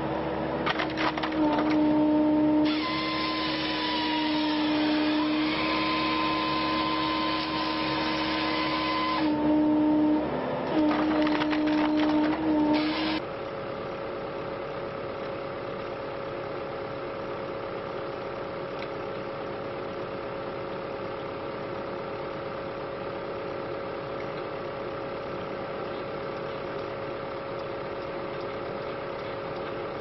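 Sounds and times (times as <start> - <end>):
firewood processor engine hum: 0.0 - 30.0.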